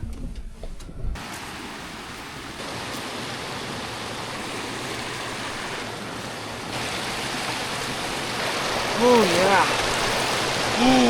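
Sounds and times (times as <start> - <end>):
river water rushing: 1.2 - 11.0.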